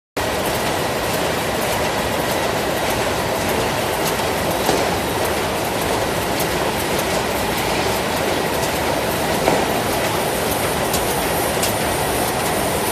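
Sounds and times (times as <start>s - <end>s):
conveyor machine clattering: 0.2s - 12.9s.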